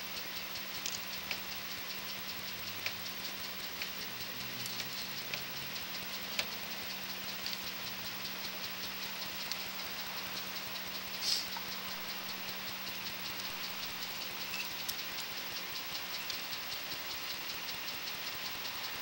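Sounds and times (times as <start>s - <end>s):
electrical hiss and hum: 0.0s - 19.0s
rapid faint ticking: 0.0s - 19.0s.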